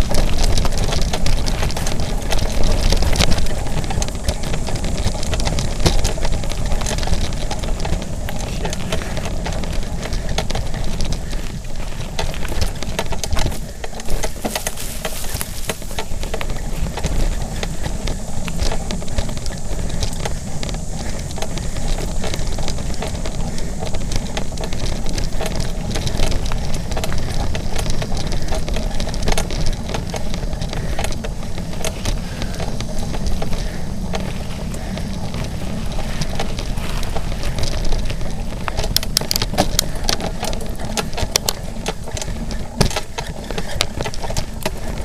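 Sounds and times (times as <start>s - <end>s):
bike clicking and rattling: 0.0s - 45.0s
bike tyres rumbling on dirt: 0.0s - 45.0s.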